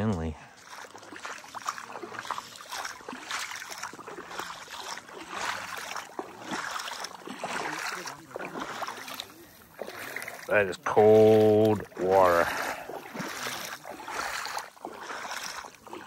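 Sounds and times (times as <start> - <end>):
footsteps splashing in water: 0.0 - 16.0.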